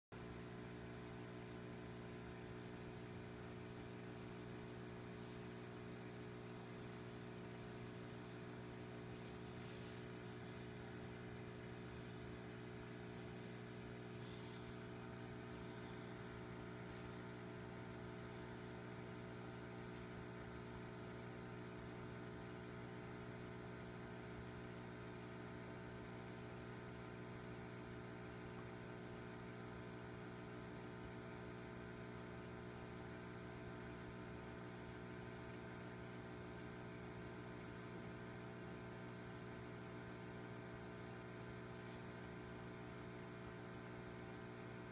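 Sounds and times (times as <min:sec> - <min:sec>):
electrical hum: 0:00.2 - 0:44.9.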